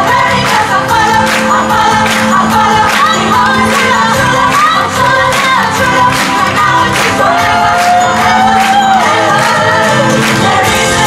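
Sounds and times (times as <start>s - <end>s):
women's chorus singing: 0.0s - 11.0s.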